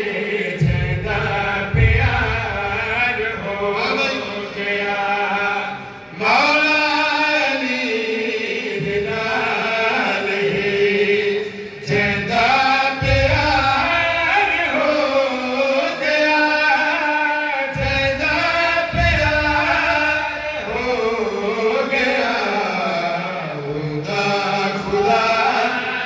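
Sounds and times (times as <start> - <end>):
man chanting: 0.0 - 26.0.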